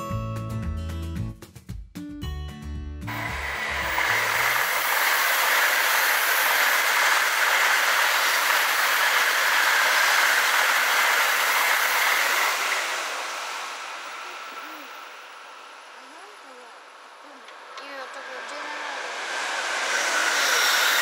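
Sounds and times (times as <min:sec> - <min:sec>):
high-speed train rushing past: 0:03.1 - 0:21.0.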